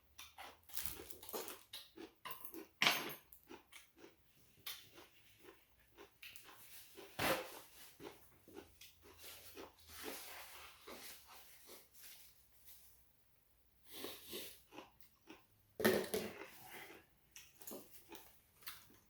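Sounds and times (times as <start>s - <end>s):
person chewing food: 0.0s - 11.9s, 13.9s - 19.0s.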